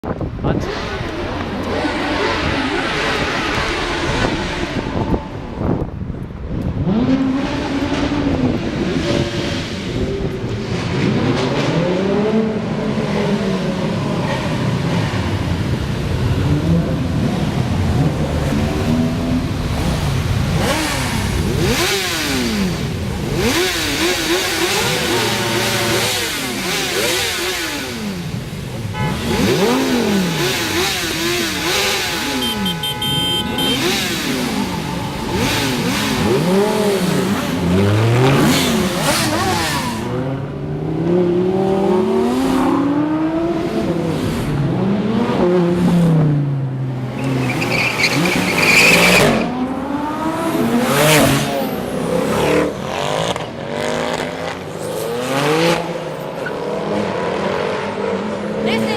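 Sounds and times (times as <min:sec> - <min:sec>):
supercar engines revving: 0:00.1 - 0:58.9.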